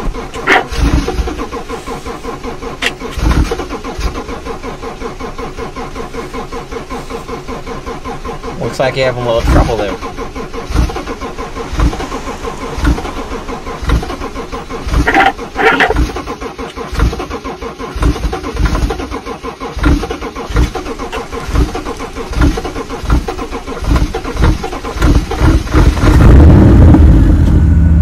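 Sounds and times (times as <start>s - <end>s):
car engine cranking: 0.0s - 28.0s.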